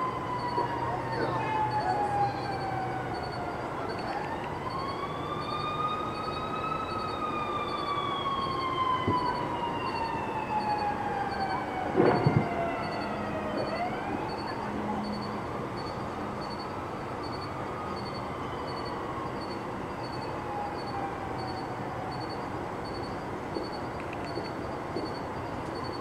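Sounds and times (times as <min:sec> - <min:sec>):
emergency vehicle siren wailing: 0:00.0 - 0:26.0.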